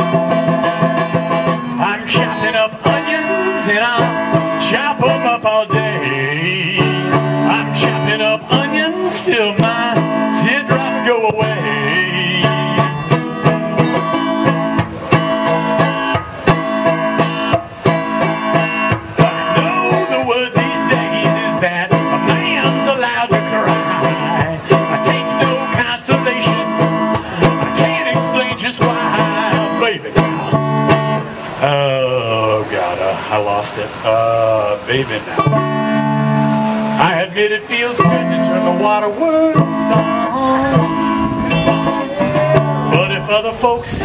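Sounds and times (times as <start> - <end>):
banjo picking: 0.0 - 44.0
country band playing: 0.0 - 44.0.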